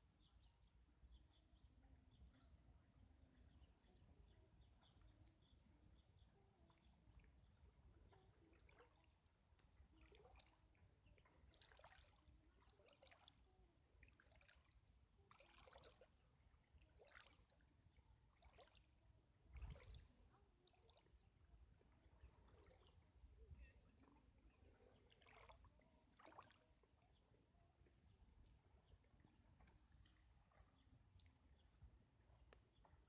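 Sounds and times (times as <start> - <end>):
small waves lapping: 5.2 - 33.0.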